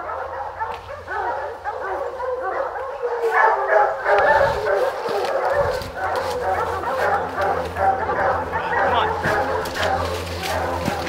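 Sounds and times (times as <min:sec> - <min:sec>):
hounds baying and barking: 0:00.0 - 0:11.0.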